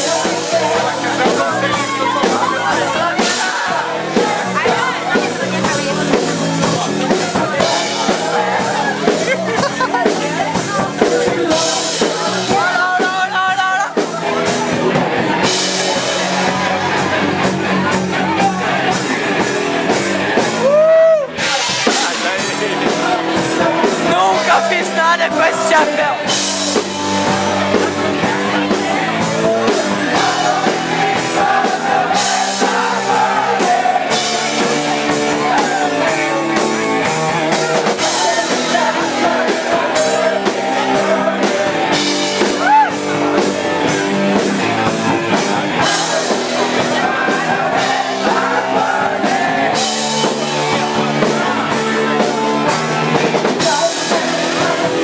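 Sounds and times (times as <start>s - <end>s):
person singing: 0.0s - 17.0s, 20.6s - 55.0s
live rock band playing: 0.0s - 55.0s.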